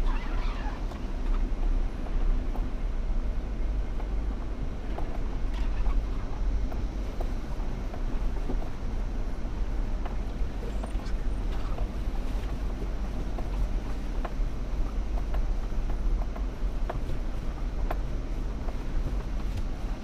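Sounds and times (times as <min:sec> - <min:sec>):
low engine rumble: 0:00.0 - 0:20.0
vehicle rattles and rock knocks: 0:00.0 - 0:20.0.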